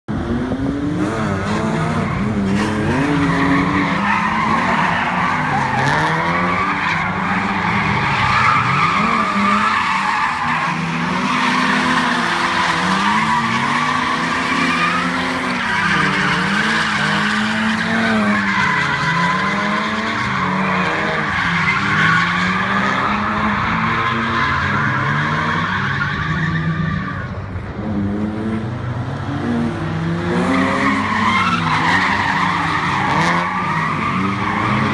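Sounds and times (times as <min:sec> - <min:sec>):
car engines revving: 0:00.1 - 0:34.9.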